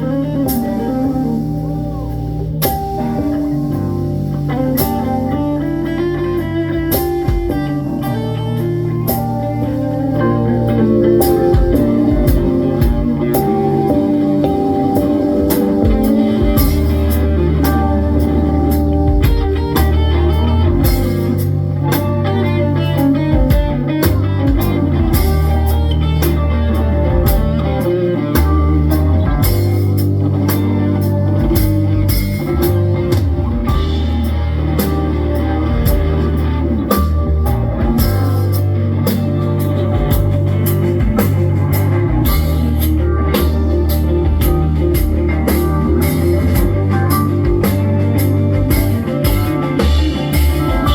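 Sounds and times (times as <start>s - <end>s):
drum kit: 0.0s - 50.9s
electric guitar: 0.0s - 50.9s
low bass notes: 0.0s - 50.9s.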